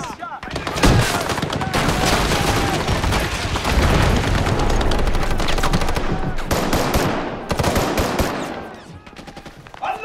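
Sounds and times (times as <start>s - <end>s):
automatic rifle gunfire: 0.5s - 8.6s.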